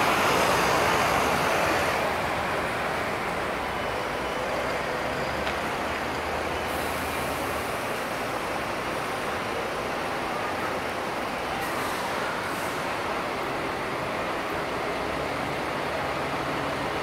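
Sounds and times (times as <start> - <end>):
diesel bus engine idling: 0.0 - 17.0.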